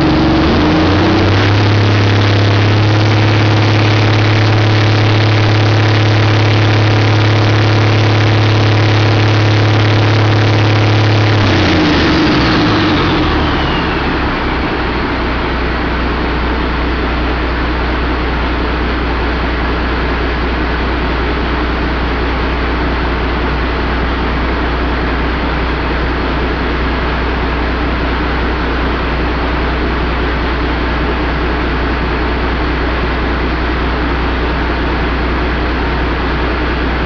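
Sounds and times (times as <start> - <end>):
diesel engine revving: 0.0 - 37.0
high turbo whine: 0.0 - 37.0.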